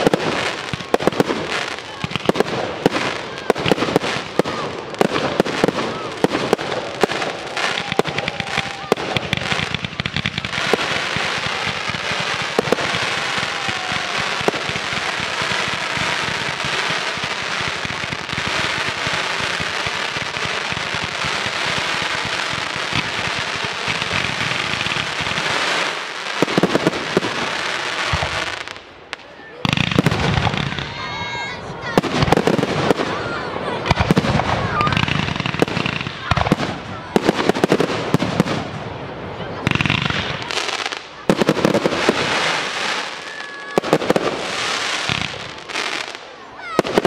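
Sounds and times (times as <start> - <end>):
fireworks bangs: 0.0 - 47.0
fireworks crackle: 0.0 - 47.0.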